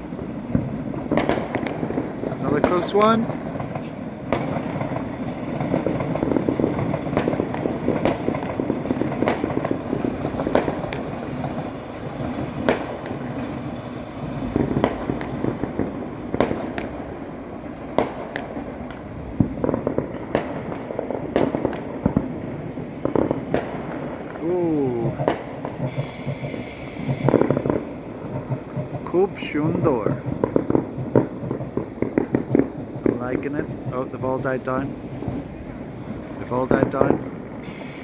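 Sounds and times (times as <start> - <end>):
fireworks crackling and banging: 0.0 - 38.0.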